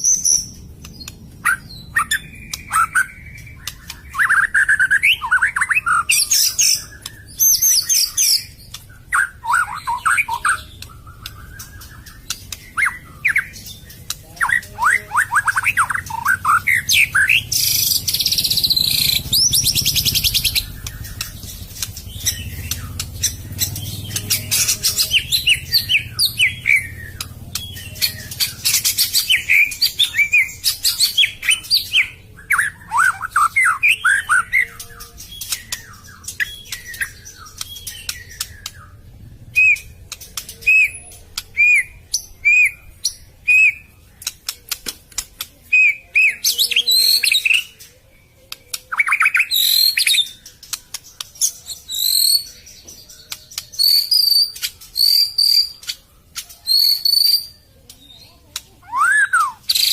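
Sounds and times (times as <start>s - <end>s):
sharp bird clicks: 0.0s - 14.6s, 15.3s - 47.9s, 48.5s - 59.9s
bird singing whistled phrases: 0.0s - 43.9s, 45.7s - 47.9s, 48.7s - 50.4s, 51.7s - 52.9s, 53.5s - 59.9s.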